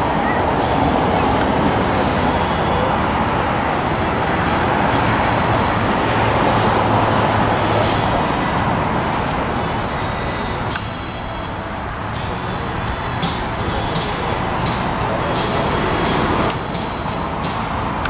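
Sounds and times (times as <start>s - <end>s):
loud vehicle rumble: 0.0s - 18.0s.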